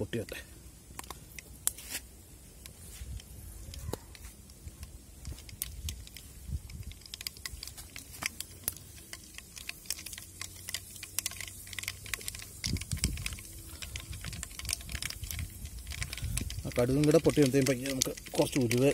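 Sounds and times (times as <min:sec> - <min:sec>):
seeds popping in hot oil: 0:00.8 - 0:18.9.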